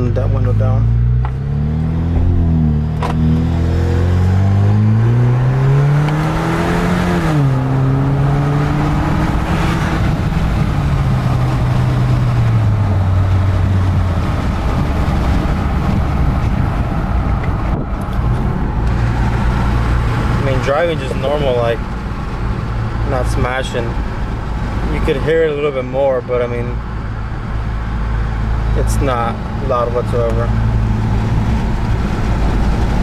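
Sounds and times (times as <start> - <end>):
car engine revving: 0.0 - 33.0
road and wind noise: 0.0 - 33.0.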